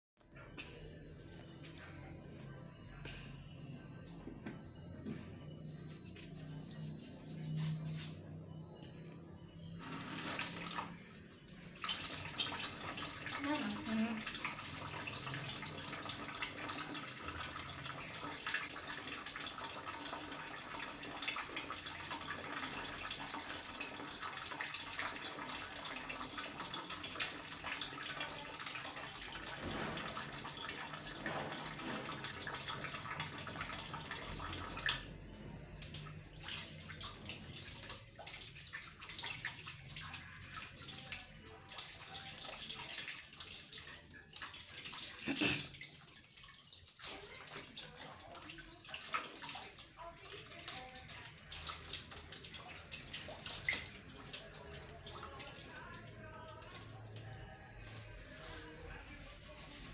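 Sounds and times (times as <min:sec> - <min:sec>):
water running into basin: 0:09.7 - 0:59.9.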